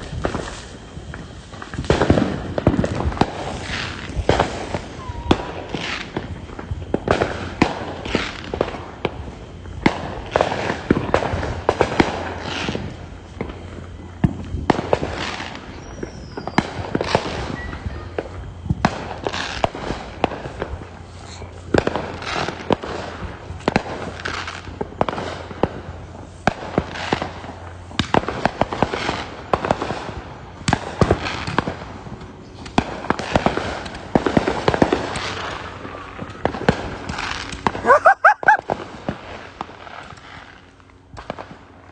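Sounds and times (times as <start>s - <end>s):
fireworks bangs and pops: 0.0s - 41.9s
fireworks crackling: 0.0s - 41.9s.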